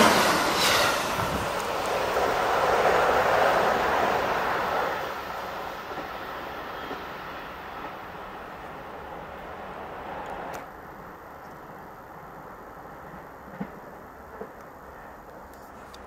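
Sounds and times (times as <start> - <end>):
electric train running on rails: 0.0 - 16.0.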